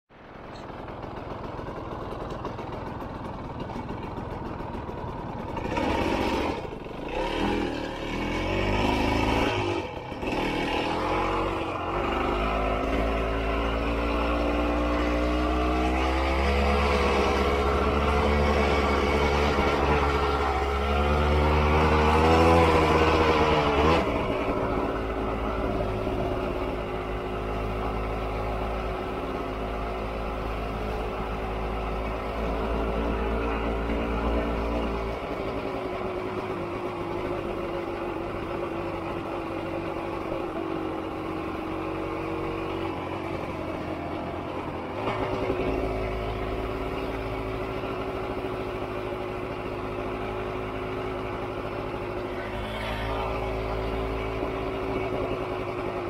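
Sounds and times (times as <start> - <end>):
dirt bike engine revving: 5.6 - 48.3, 52.2 - 55.4.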